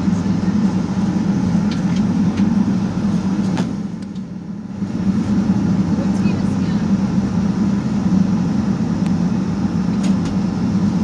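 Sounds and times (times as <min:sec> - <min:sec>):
jet engines humming: 0:00.0 - 0:11.0
wheels rumbling on taxiway: 0:00.0 - 0:11.0.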